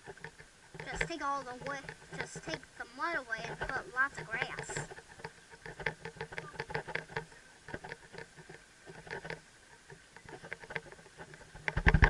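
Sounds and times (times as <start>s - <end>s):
helmet camera rattling and clicking: 0.0s - 12.0s.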